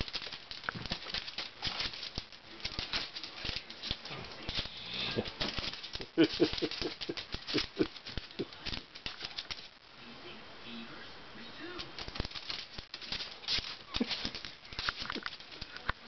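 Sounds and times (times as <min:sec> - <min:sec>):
dog claws clicking on wooden floor: 0:00.0 - 0:09.7, 0:11.8 - 0:16.0.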